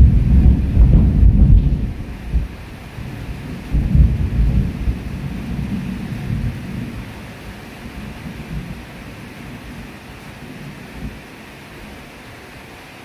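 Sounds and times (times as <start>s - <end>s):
rumble of thunder: 0.0s - 12.0s
rain on paving and plants: 0.0s - 13.0s.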